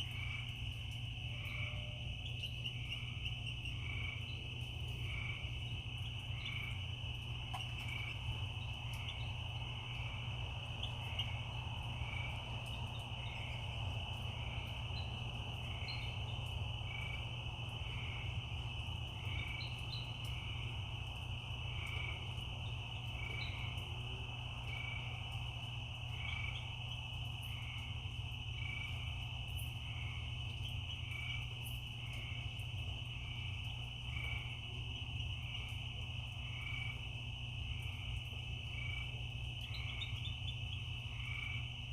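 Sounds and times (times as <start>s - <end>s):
crickets trilling: 0.0s - 41.9s
short insect call: 0.0s - 41.9s.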